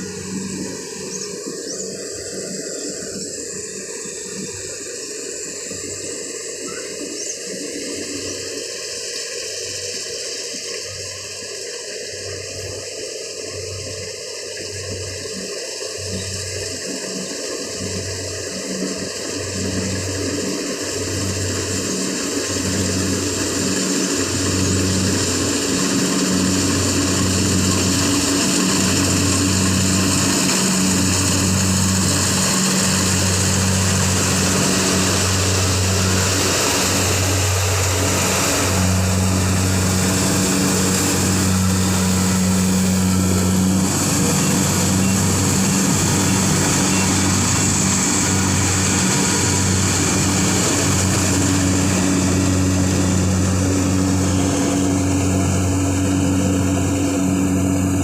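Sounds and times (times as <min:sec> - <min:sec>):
thresher engine drone: 0:00.0 - 0:58.0.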